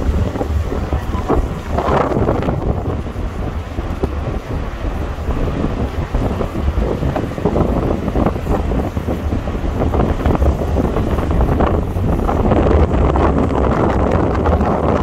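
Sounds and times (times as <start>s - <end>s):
low rumble from ship: 0.0s - 15.0s
wind buffeting microphone: 0.0s - 15.0s.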